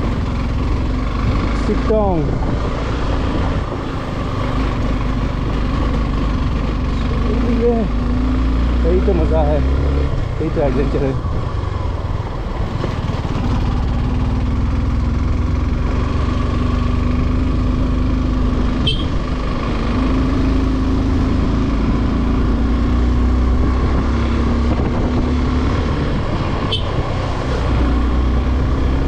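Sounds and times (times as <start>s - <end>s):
motorcycle engine under load: 0.0s - 27.8s.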